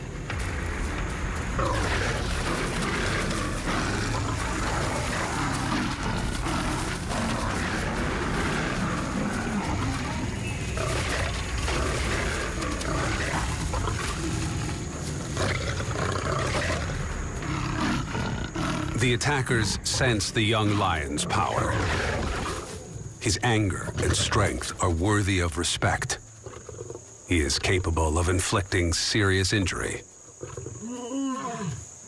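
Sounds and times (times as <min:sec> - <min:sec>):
lions growling and roaring: 0:00.0 - 0:25.2, 0:30.3 - 0:32.0.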